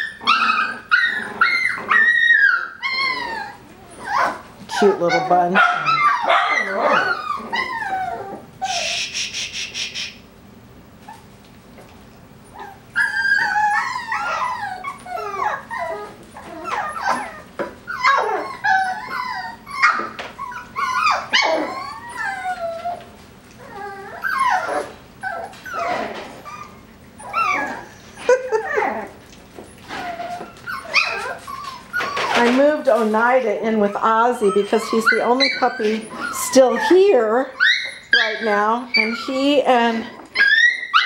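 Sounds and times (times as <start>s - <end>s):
puppies whining and howling: 0.0s - 9.1s, 12.4s - 41.0s.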